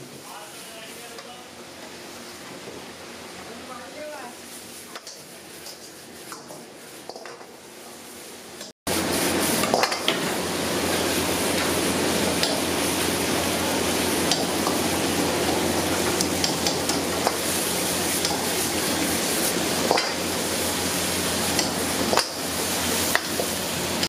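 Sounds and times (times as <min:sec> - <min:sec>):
food sizzling in wok: 0:04.2 - 0:24.0.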